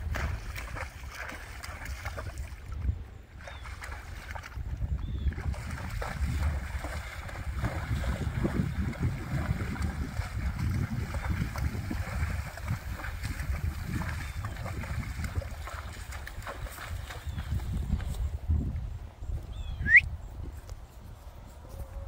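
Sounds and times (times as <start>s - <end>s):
horse splashing through water: 0.0s - 18.5s
wind rumble on microphone: 0.0s - 22.0s.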